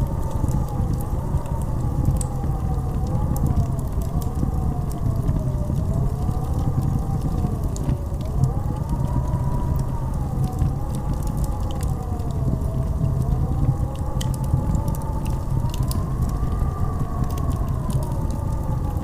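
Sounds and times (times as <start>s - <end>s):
blizzard wind howling: 0.0s - 19.0s
faint crackles: 0.0s - 19.0s.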